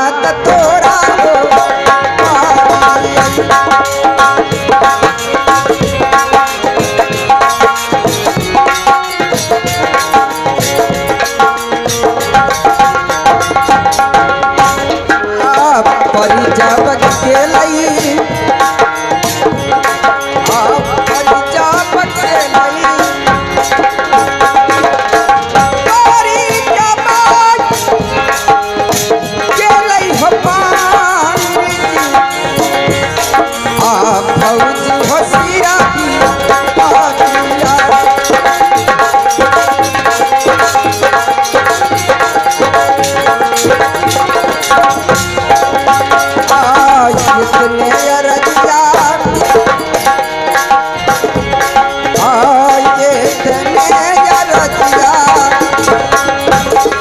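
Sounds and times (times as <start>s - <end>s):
rapid hand drum playing: 0.0s - 57.0s
wavering melody: 0.0s - 57.0s.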